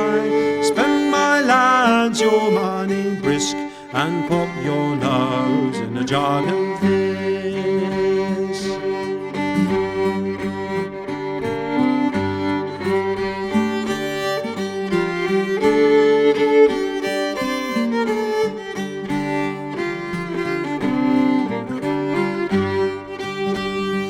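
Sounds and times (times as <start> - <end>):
fiddle playing a folk tune: 0.0 - 24.0.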